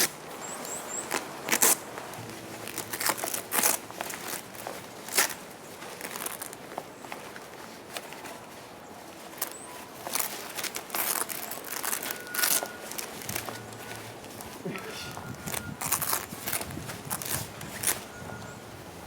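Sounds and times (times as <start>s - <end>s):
rustling and crinkling: 0.0s - 19.0s.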